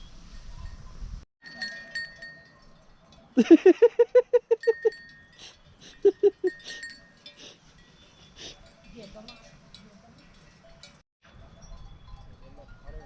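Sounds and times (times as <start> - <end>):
animal bells ringing: 1.4 - 13.0.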